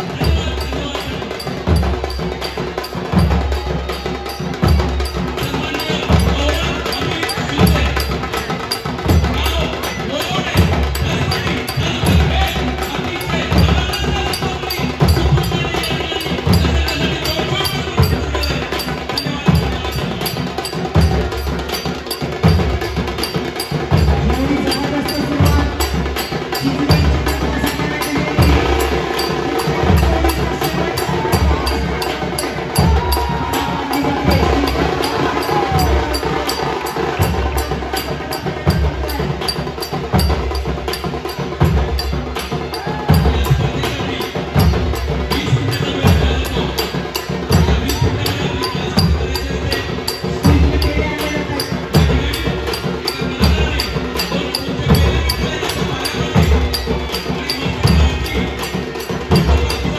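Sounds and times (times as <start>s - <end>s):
deep drum beat: 0.0s - 59.9s.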